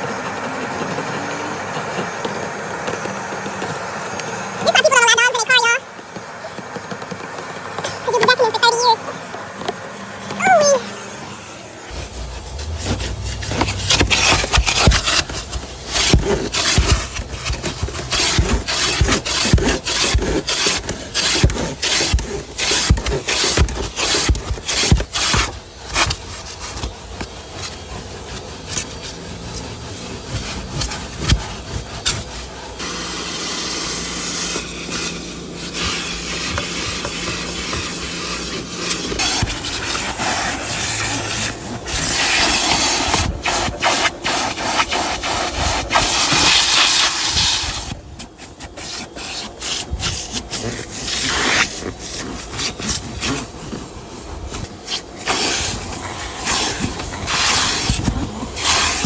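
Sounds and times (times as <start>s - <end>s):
vacuum hum: 5.8s - 59.0s
vacuum nozzle scraping surfaces: 7.0s - 59.0s.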